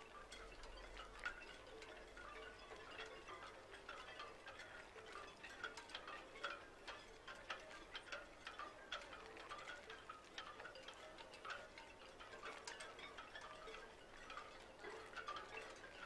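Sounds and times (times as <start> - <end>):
chime-like pings and ticks: 0.2 - 16.0.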